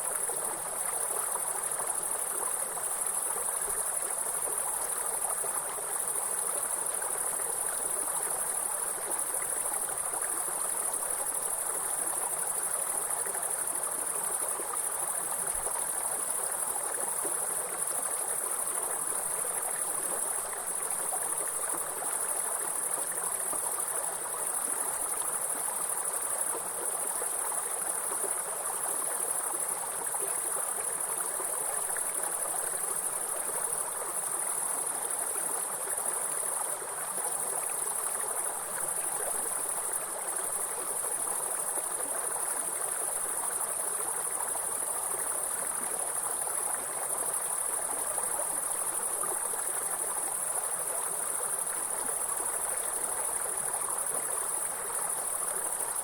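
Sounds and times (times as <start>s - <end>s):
high-pitched insect chorus: 0.0s - 56.0s
running stream water: 0.0s - 56.0s.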